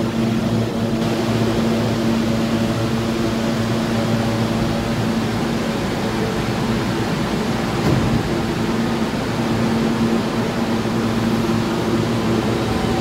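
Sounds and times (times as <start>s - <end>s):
subway train humming: 0.0s - 13.0s.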